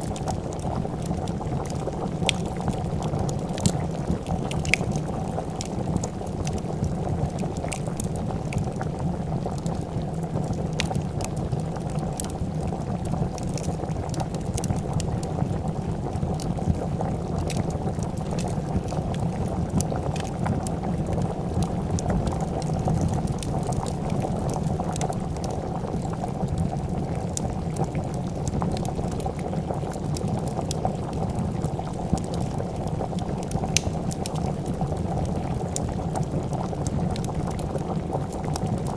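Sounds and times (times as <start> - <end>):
fire crackling and popping: 0.0 - 38.9
soup boiling and bubbling: 0.0 - 38.9.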